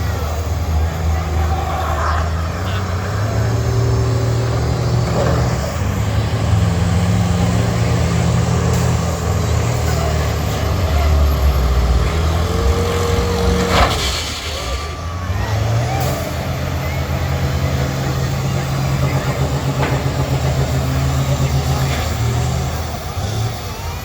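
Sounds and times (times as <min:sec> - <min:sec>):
loud vehicle impact: 0:00.0 - 0:23.4
bus engines revving: 0:00.0 - 0:24.0.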